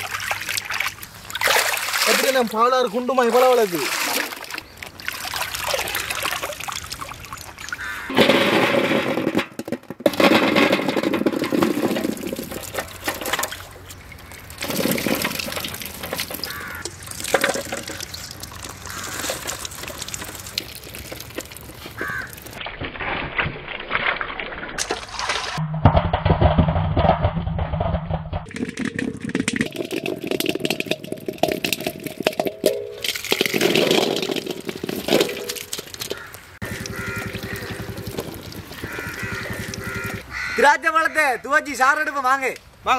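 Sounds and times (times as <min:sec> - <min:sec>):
water splashing and pouring: 0:00.0 - 0:09.4, 0:10.1 - 0:40.3.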